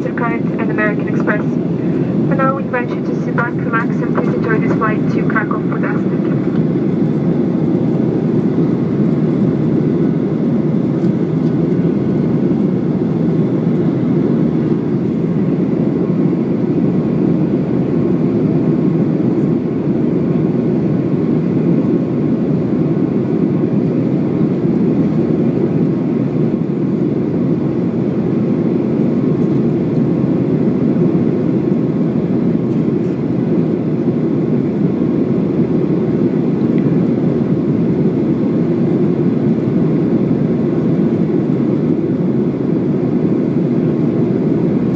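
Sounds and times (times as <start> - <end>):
airliner cabin engine and airflow noise: 0.0 - 44.9.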